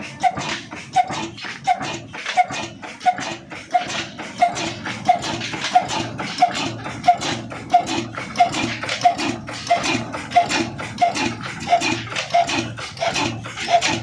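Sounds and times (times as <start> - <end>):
diesel engine sharp knock: 0.0 - 14.0
engine mechanical clatter: 0.0 - 14.0.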